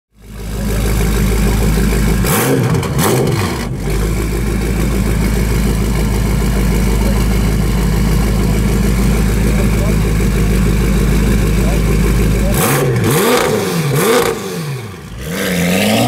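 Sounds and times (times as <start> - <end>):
car engine idling and revving: 0.1 - 16.0.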